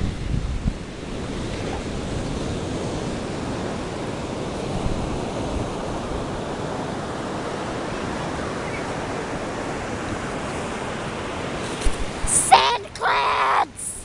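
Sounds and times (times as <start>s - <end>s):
wind buffeting microphone: 0.0s - 12.5s
ocean surf breaking: 0.0s - 14.0s.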